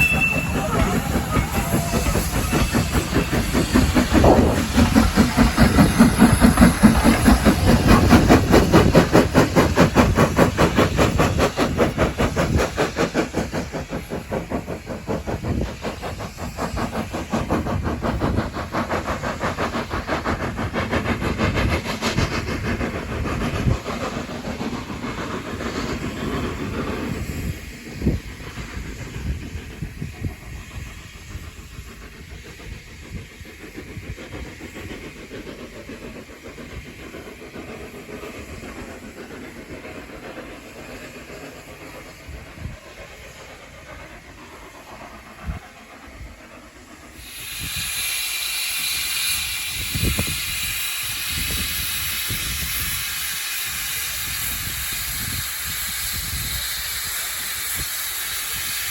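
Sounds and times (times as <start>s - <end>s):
hiss of steam: 0.0s - 58.9s
steam train pulsing: 0.0s - 58.9s.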